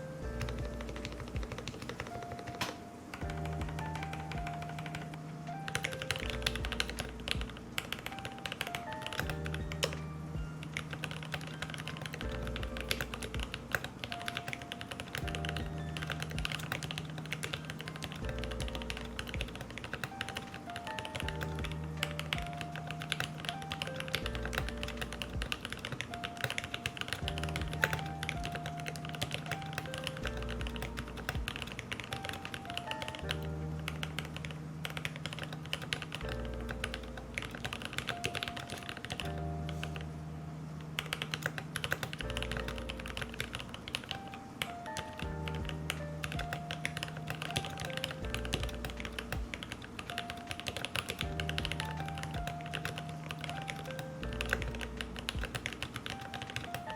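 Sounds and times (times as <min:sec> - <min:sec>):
mechanical keyboard typing: 0:00.0 - 0:40.1, 0:40.8 - 0:56.9.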